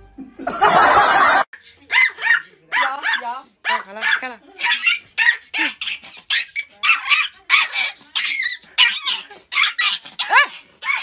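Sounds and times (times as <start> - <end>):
puppy yapping: 1.7 - 11.0.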